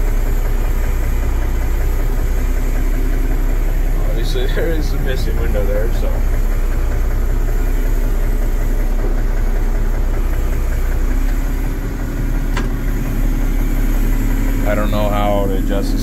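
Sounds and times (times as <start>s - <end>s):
diesel engine idling: 0.0s - 16.0s
steady hum: 0.0s - 16.0s.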